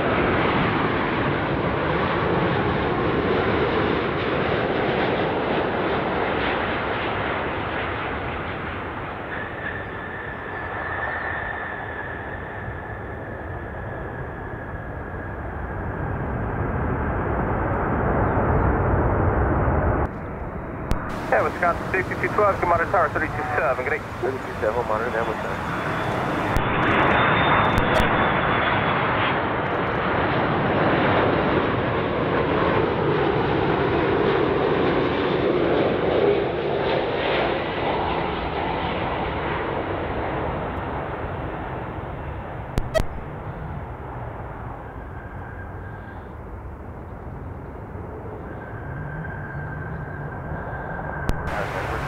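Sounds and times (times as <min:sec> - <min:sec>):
jet airliner passing: 0:00.0 - 0:52.0.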